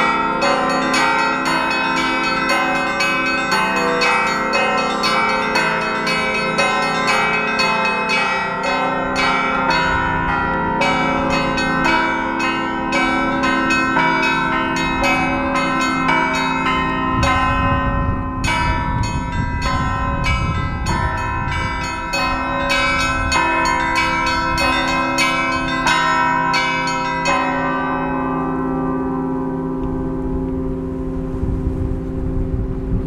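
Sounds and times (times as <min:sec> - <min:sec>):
church bells pealing: 0:00.0 - 0:32.6.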